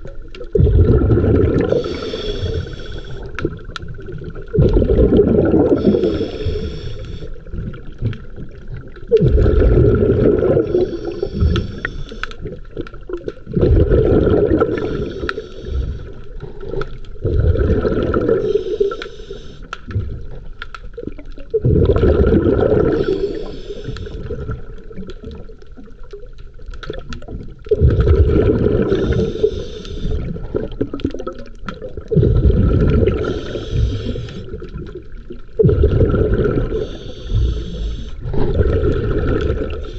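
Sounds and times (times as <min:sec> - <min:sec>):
water surging underwater: 0:00.0 - 0:39.9.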